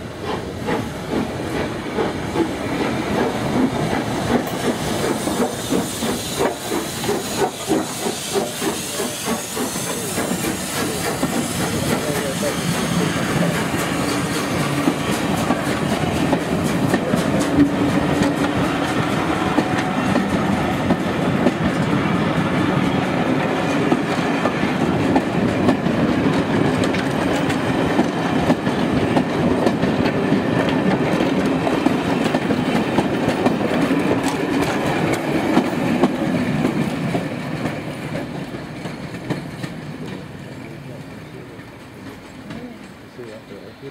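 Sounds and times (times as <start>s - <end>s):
train wheels clattering over rails: 0.1s - 43.6s.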